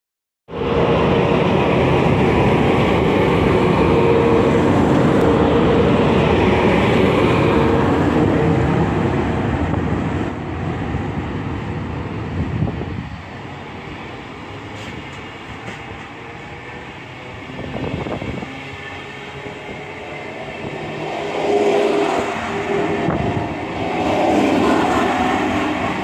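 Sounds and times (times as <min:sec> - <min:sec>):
locomotive hum: 0:00.5 - 0:26.0
train wheels rumbling on rail: 0:00.5 - 0:26.0.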